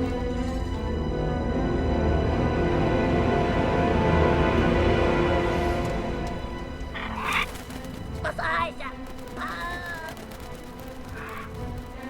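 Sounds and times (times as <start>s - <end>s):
dark orchestral film music: 0.0s - 12.0s.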